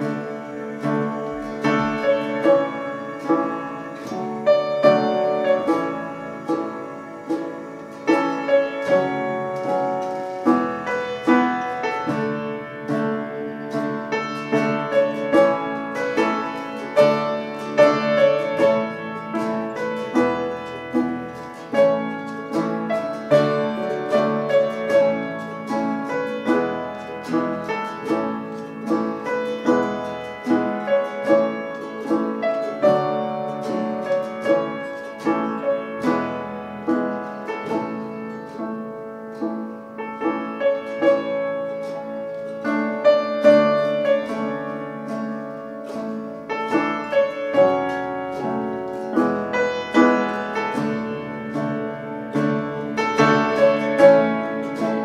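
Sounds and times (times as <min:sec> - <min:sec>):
acoustic guitar: 0:00.0 - 0:55.0
keyboard piano: 0:00.0 - 0:55.0.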